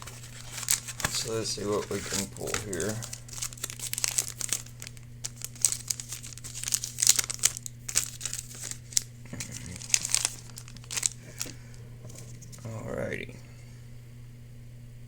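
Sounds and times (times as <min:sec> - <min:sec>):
foil wrapper crinkling: 0:00.0 - 0:12.8.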